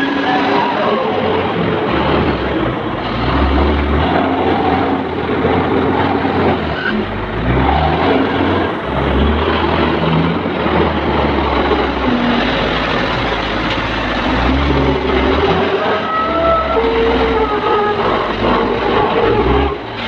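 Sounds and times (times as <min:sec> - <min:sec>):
diesel engine revving: 0:00.0 - 0:20.0.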